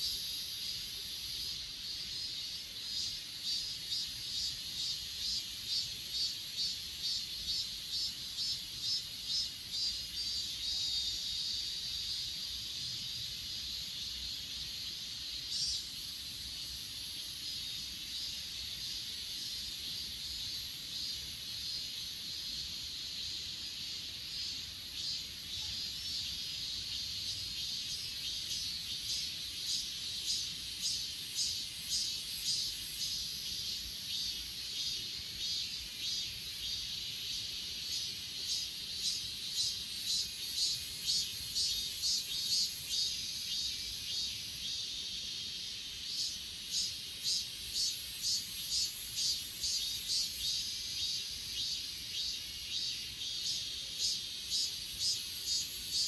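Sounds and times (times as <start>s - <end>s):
crickets chirping: 0.0s - 56.0s
insects trilling: 0.0s - 56.0s.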